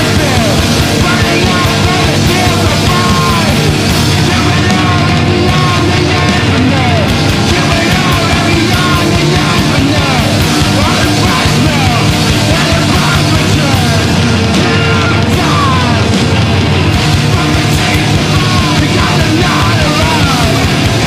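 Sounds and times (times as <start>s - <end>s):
screamo and noise rock music: 0.0s - 21.0s.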